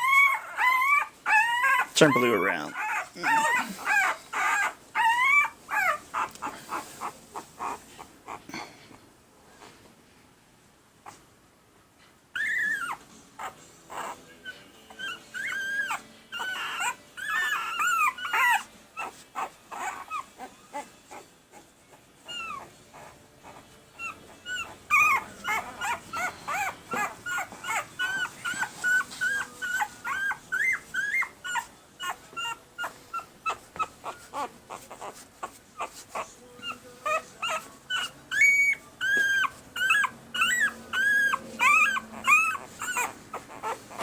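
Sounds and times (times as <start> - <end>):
puppies whining and squealing: 0.0 - 8.7, 12.4 - 44.0.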